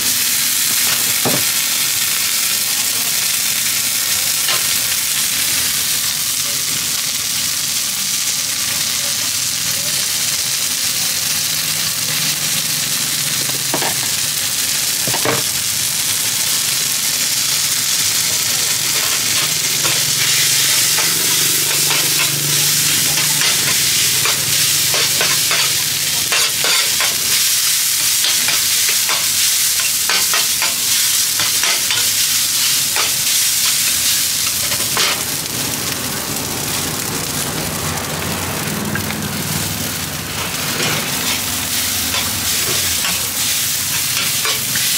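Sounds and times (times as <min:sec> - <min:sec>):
rice sizzling on metal pan: 0:00.0 - 0:44.9.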